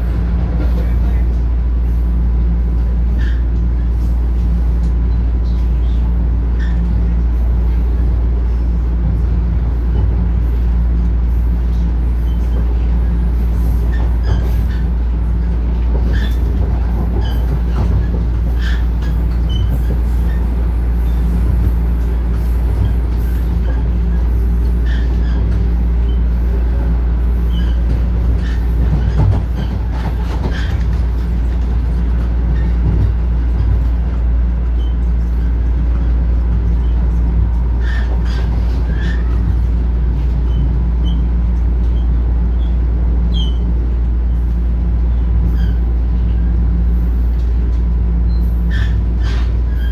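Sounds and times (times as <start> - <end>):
wheels rumbling on rails: 0.0 - 49.9.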